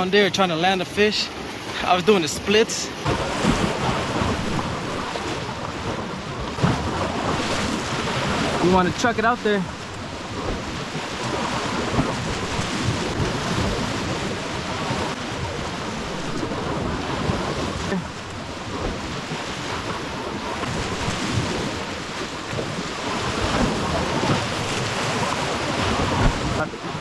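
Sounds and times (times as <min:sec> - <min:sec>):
water splashing against rocks: 0:00.0 - 0:27.0
wind buffeting microphone: 0:01.1 - 0:27.0.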